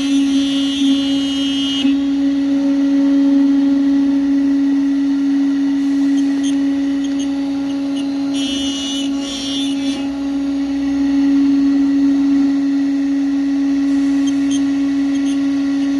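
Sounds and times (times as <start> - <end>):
cutting machine humming: 0.0 - 15.9.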